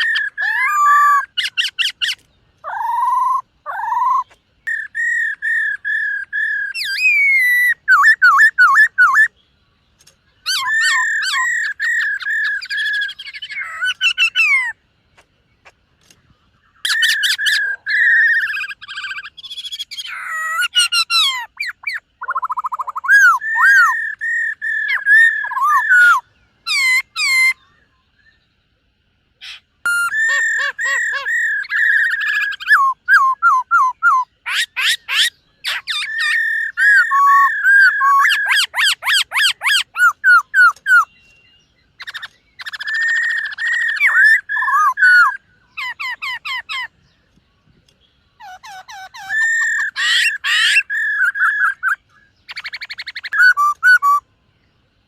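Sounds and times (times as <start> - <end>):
bird singing whistles and trills: 0.0 - 14.8, 16.0 - 28.8, 29.4 - 54.9.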